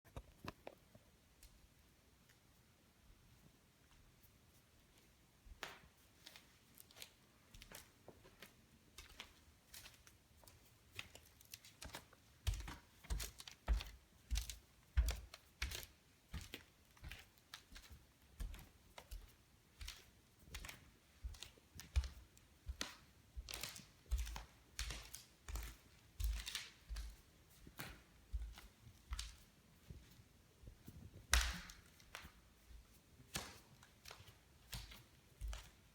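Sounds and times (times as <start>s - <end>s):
floorboards clicking under foot: 4.9s - 35.9s.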